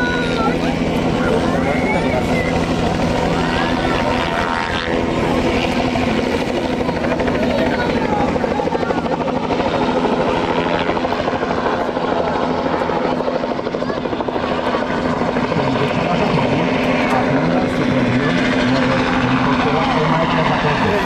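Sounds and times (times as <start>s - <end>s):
helicopter rotor chopping: 0.0s - 21.0s.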